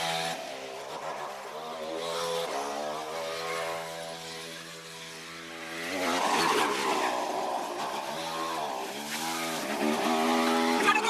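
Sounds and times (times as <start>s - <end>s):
small gas engine revving: 0.0s - 11.0s.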